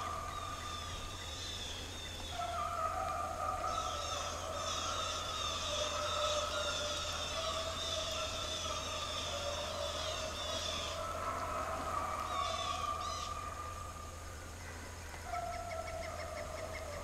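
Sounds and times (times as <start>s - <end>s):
hounds baying and howling: 0.0s - 1.1s, 2.2s - 17.0s.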